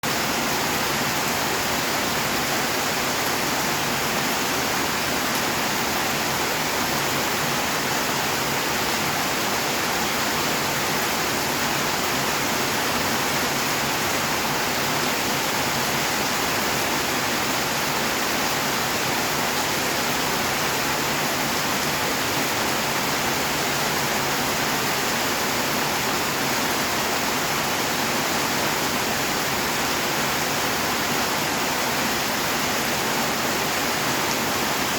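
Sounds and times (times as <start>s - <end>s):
steady rainfall hiss: 0.0s - 34.9s.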